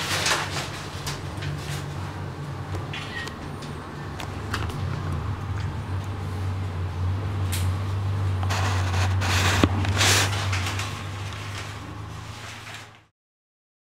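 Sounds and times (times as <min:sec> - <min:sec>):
dark ambient drone: 0:00.0 - 0:12.8.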